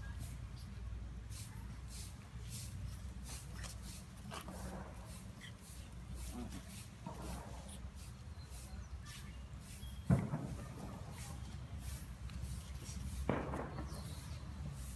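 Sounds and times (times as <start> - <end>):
dogs scuffling on dirt: 2.8 - 14.9.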